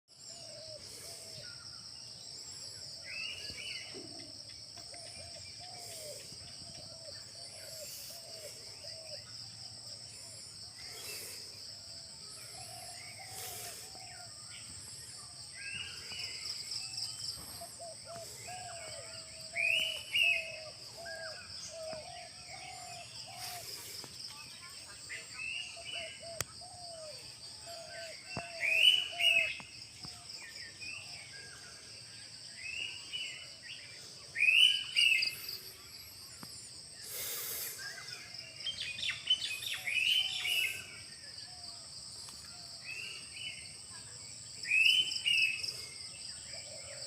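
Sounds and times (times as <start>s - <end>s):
birds calling and chirping: 0.1s - 47.0s.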